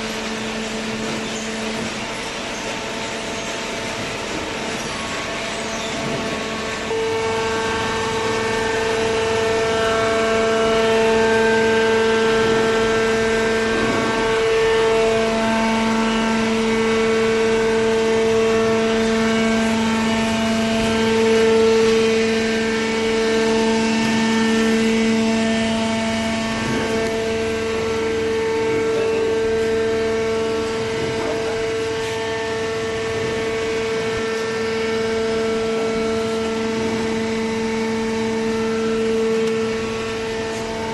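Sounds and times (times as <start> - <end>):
baler machine hum with whine: 0.0 - 40.9.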